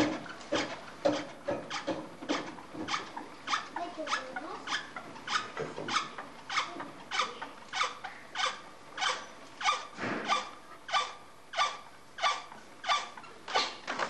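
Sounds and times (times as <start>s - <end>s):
potter's wheel squeaking: 0.0s - 13.8s.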